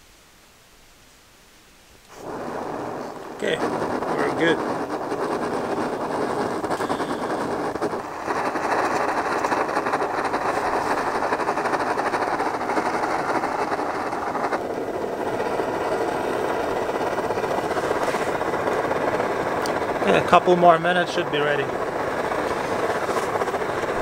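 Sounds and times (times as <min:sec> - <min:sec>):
camping stove hissing: 0:01.9 - 0:24.0.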